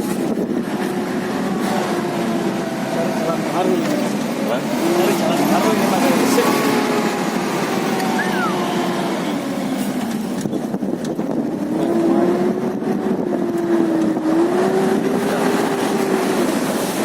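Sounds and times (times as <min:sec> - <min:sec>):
engine running under load: 0:00.0 - 0:17.0
steady rushing noise: 0:00.0 - 0:17.0.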